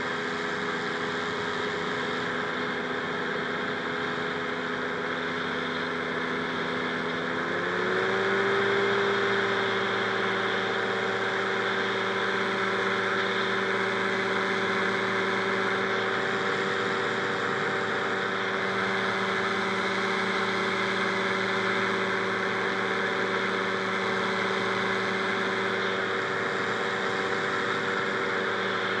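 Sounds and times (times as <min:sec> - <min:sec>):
two-stroke engine running steadily: 0:00.0 - 0:29.0.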